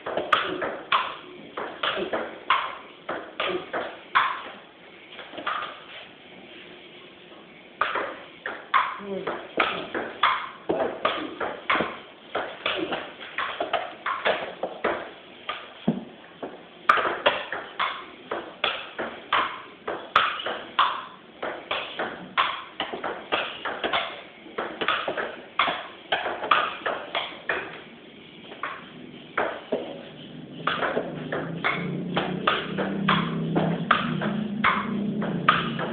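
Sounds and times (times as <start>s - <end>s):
table tennis ball hits: 0.0s - 4.6s, 5.2s - 6.0s, 7.8s - 35.9s.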